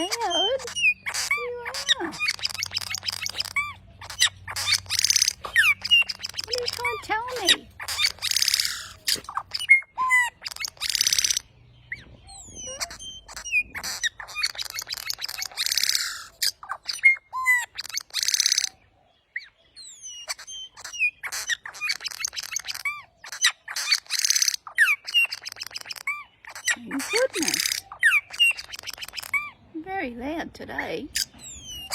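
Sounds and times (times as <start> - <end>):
bird screeching and chirping: 0.0 - 29.7, 31.1 - 31.9.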